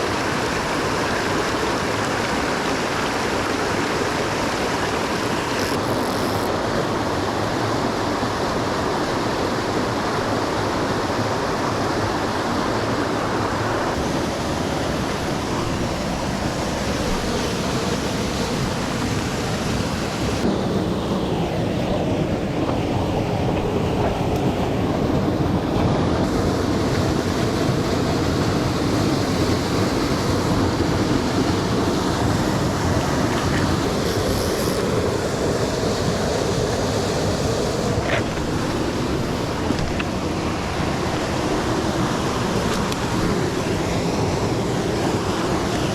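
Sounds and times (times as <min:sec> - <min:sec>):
stream water running: 0:00.0 - 0:20.6, 0:22.2 - 0:45.9.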